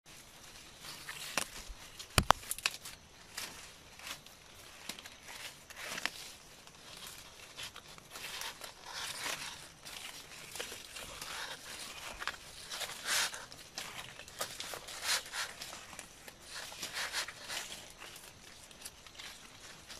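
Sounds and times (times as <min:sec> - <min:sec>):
palm leaves rustling and crackling: 0:00.1 - 0:19.9.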